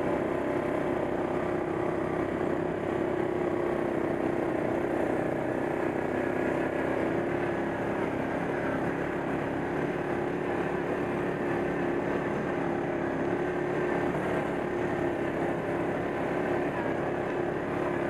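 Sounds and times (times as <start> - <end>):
quad bike engine droning: 0.0 - 18.0.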